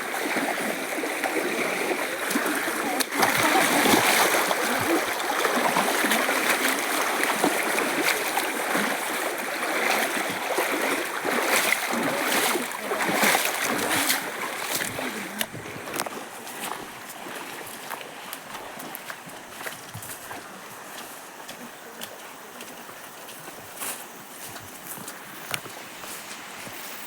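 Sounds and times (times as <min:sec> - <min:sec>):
water running and splashing: 0:00.0 - 0:23.8.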